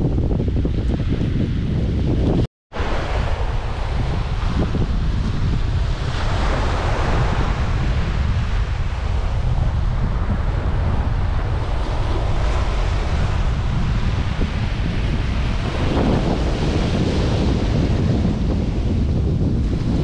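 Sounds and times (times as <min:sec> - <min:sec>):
wind buffeting microphone: 0:00.0 - 0:20.0
surf washing onto beach: 0:02.8 - 0:20.0.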